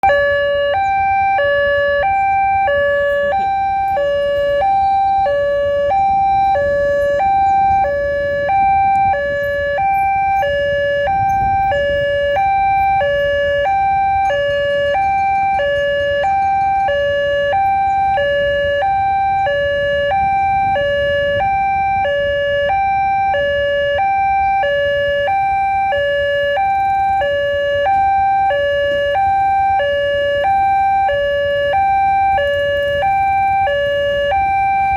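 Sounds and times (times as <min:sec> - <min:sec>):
level crossing two-tone alarm: 0:00.0 - 0:34.9.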